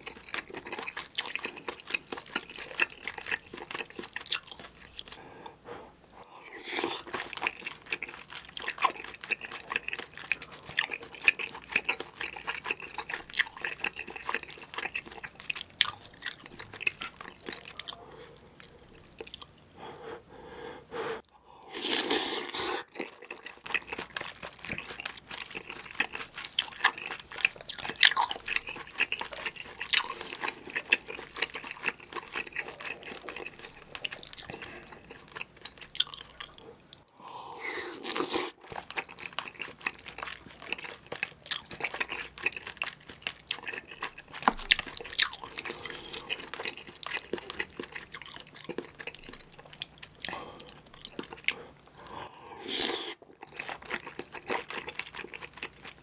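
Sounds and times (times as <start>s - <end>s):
wet chewing and mouth sounds: 0.0s - 56.0s.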